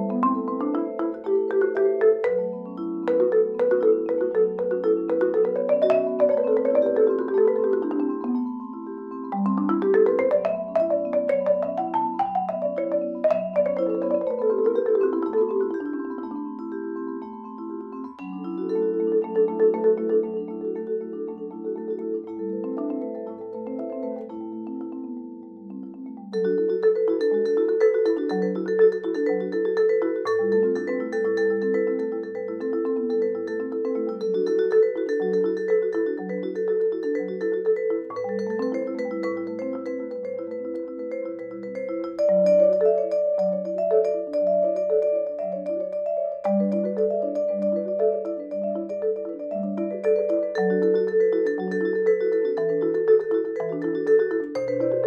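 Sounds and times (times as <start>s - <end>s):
marimba runs: 0.0s - 55.0s
vibraphone ringing tones: 0.0s - 55.0s.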